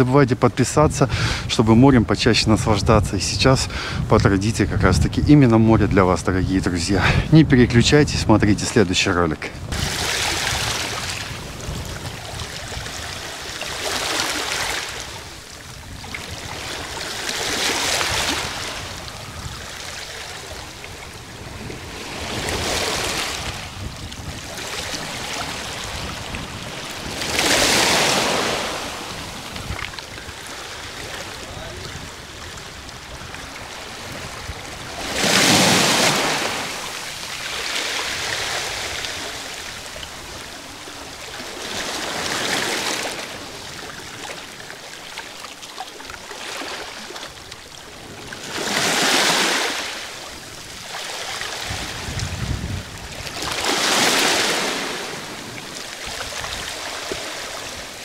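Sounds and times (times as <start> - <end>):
waves breaking on pebbles: 9.6 - 58.0.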